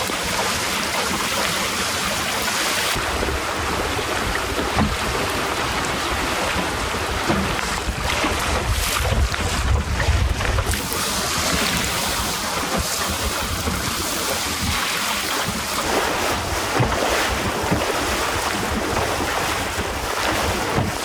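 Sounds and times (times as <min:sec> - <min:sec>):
water rushing along hull: 0:00.0 - 0:21.0
wind buffeting microphone: 0:03.0 - 0:21.0.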